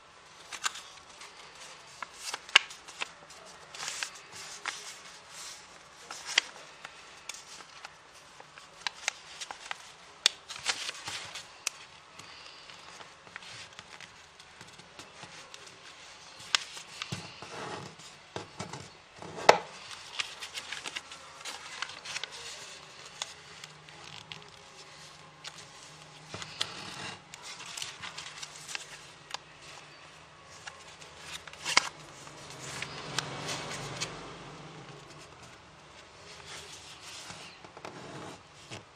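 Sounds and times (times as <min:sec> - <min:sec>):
paper crinkling and creasing: 0:00.2 - 0:38.9.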